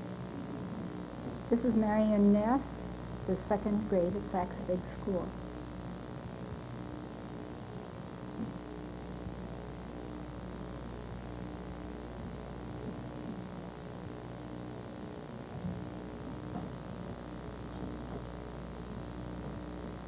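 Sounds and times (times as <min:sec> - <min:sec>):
electrical mains hum: 0:00.0 - 0:20.0
tape hiss: 0:00.0 - 0:20.0.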